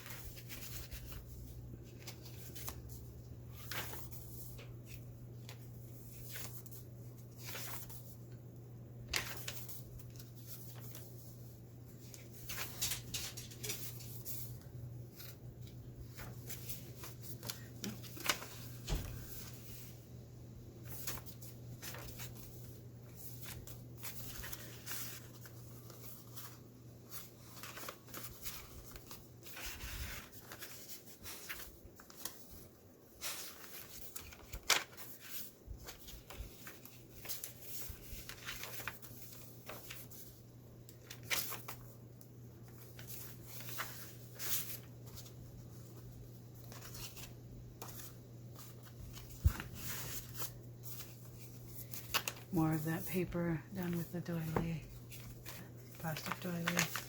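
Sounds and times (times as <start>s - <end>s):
paper rustling and crinkling: 0.0s - 8.4s, 9.0s - 20.0s, 20.8s - 57.0s.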